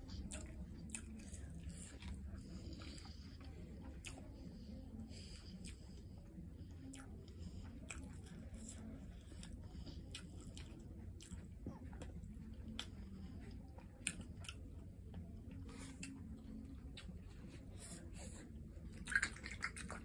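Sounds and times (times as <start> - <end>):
chewing and mouth smacks: 0.0 - 20.0.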